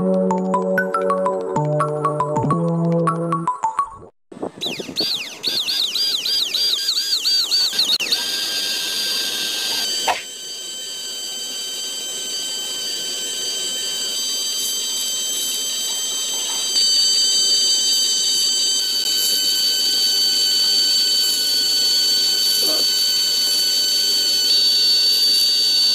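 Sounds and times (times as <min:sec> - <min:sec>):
small electric motor whining: 0:04.6 - 0:25.9.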